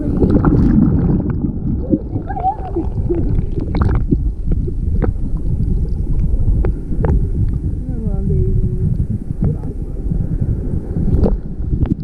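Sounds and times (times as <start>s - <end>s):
underwater rushing water rumble: 0.0s - 12.0s.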